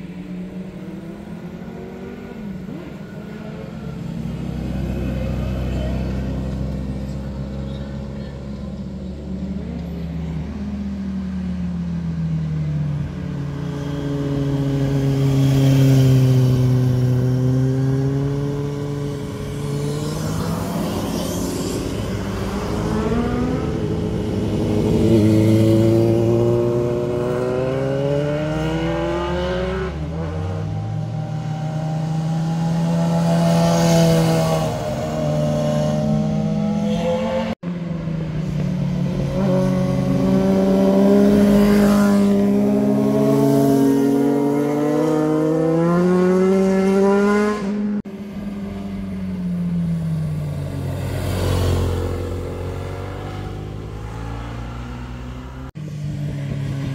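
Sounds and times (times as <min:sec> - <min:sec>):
motorcycle engines revving: 0:00.0 - 0:56.9
car engine passing: 0:08.9 - 0:56.9.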